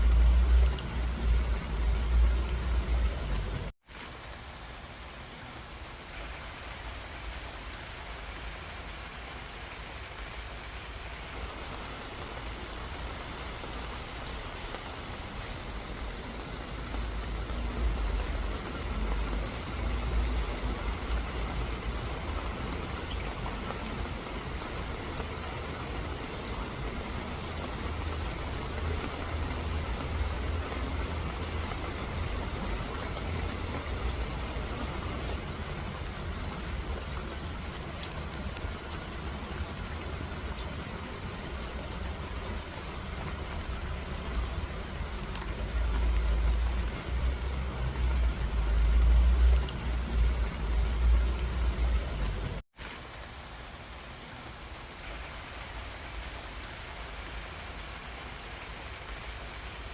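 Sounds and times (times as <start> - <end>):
rain pattering on surfaces: 0.0 - 59.9.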